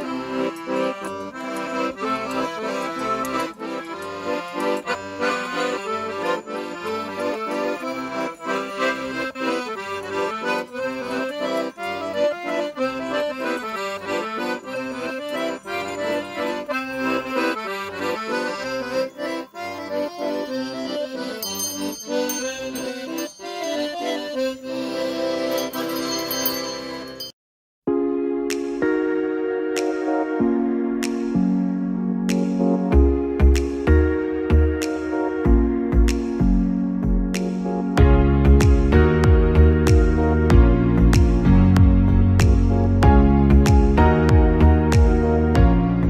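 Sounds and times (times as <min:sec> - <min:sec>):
accordion playing a lively tune: 0:00.0 - 0:27.3, 0:28.8 - 0:46.0.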